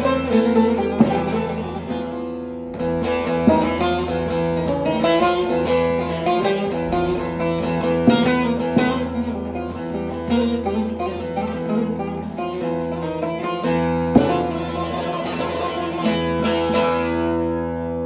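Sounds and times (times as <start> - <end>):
plucked lute melody with drone: 0.0 - 18.0
sharp strummed strokes: 0.0 - 18.0.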